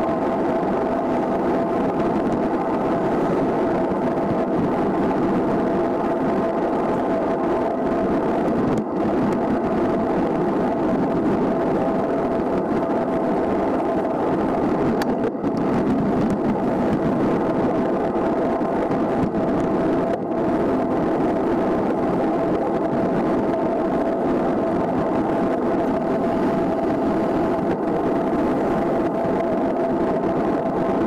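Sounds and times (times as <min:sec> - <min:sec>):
bike tyres rolling on asphalt: 0:00.0 - 0:31.0
constant hum: 0:00.0 - 0:31.0
wind rushing over camera: 0:00.0 - 0:31.0.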